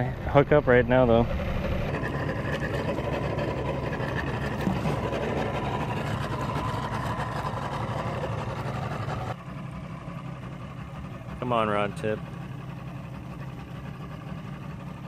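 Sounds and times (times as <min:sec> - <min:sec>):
boat engine idling: 0:00.0 - 0:15.0
water noise: 0:00.0 - 0:15.0.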